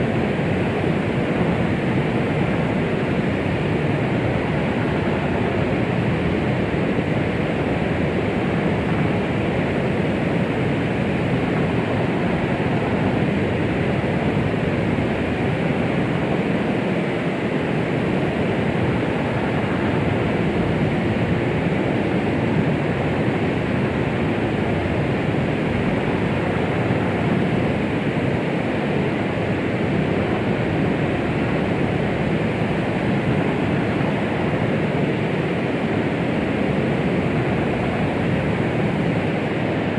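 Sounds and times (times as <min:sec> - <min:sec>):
steady white noise rushing: 0:00.0 - 0:39.9.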